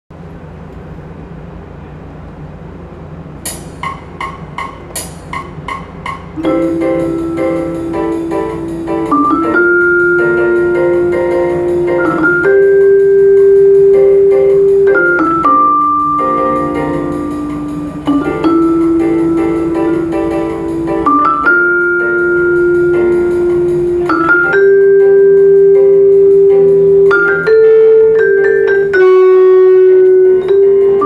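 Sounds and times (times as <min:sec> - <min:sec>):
bossa nova backing track: 0:03.5 - 0:31.0
vibraphone notes ringing: 0:03.5 - 0:31.0.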